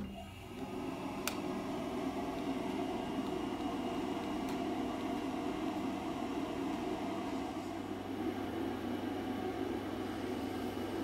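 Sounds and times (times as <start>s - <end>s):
fan whooshing hum: 0.0s - 11.0s.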